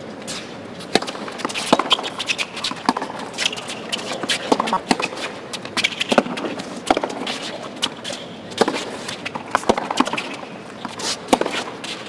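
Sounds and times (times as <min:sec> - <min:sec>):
racquets hitting tennis ball: 0:00.2 - 0:12.0.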